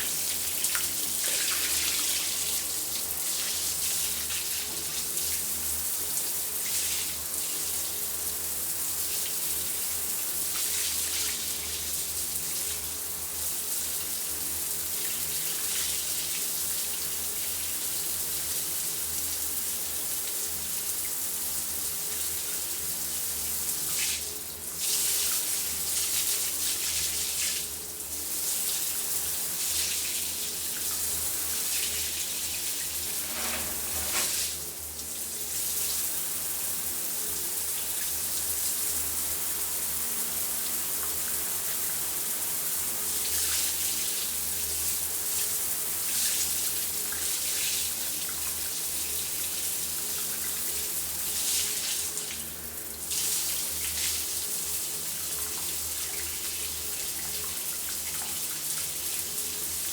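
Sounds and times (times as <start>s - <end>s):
shower spraying water: 0.0s - 59.9s.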